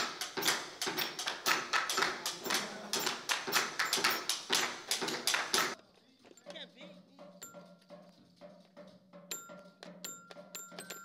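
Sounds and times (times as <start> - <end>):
hand percussion steady rhythm: 0.0 - 11.0.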